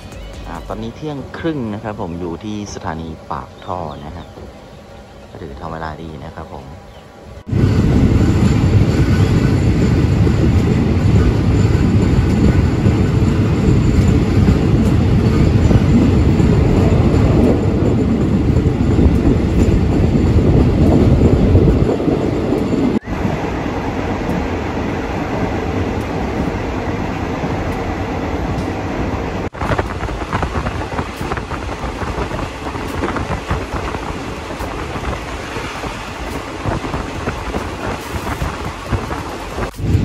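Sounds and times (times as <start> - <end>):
train rumbling on rails: 0.0 - 40.0.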